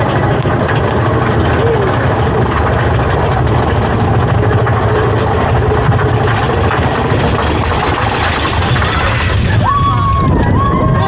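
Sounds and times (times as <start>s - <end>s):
roller coaster cars rumbling: 0.0s - 11.0s.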